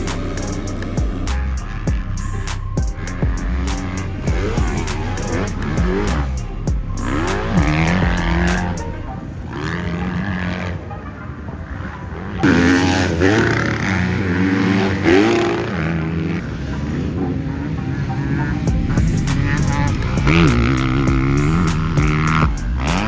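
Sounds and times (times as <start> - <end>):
dirt bike engines revving: 0.0 - 10.8, 11.8 - 23.0.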